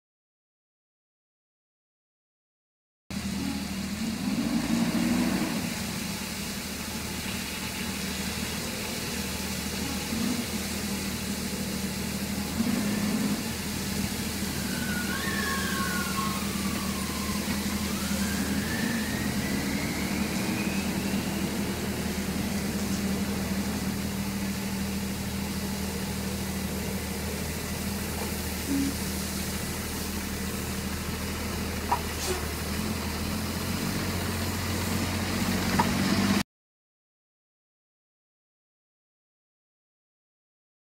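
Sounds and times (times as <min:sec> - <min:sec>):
truck engine running: 0:03.1 - 0:36.4
water jets spraying: 0:03.2 - 0:36.4.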